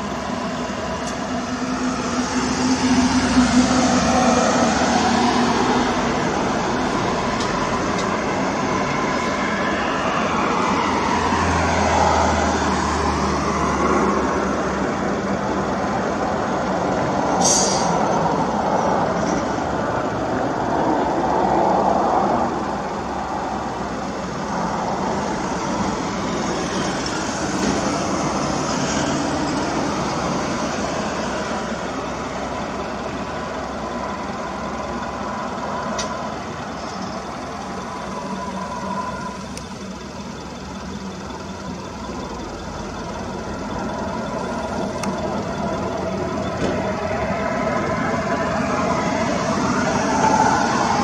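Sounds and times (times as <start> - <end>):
passing train rumble: 0.0 - 51.0
road traffic: 0.0 - 51.0.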